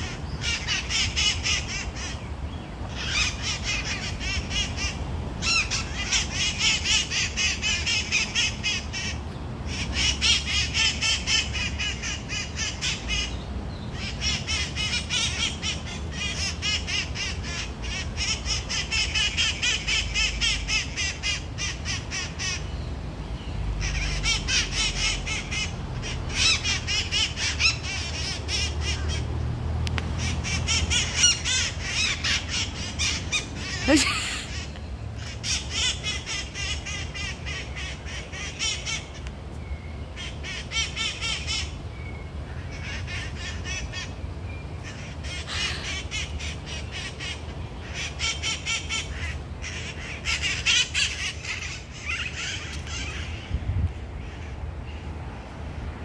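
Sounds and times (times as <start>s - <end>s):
parrots screeching: 0.0s - 2.2s, 2.9s - 13.4s, 14.0s - 22.6s, 23.8s - 29.3s, 30.2s - 39.2s, 40.2s - 41.8s, 42.6s - 44.1s, 44.8s - 53.5s.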